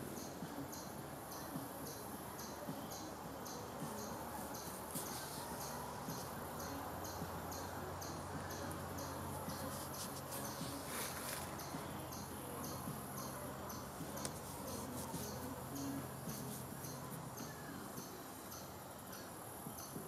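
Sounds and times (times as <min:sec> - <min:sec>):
faint low hum: 0:00.0 - 0:20.0
insects chirping: 0:00.0 - 0:20.0.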